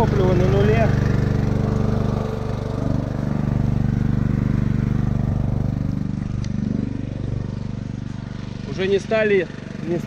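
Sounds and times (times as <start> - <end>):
petrol generator running: 0.0 - 10.0.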